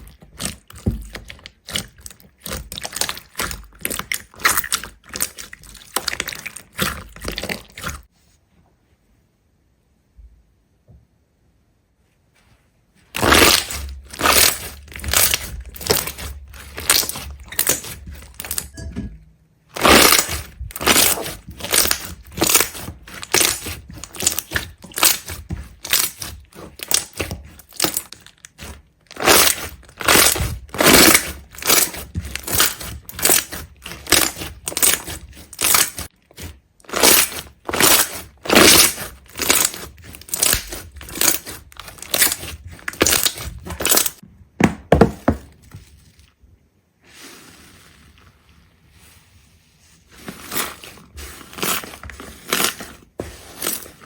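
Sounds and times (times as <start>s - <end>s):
crisp crunching strokes: 0.0s - 8.1s, 13.0s - 18.8s, 19.7s - 44.2s, 45.6s - 54.0s.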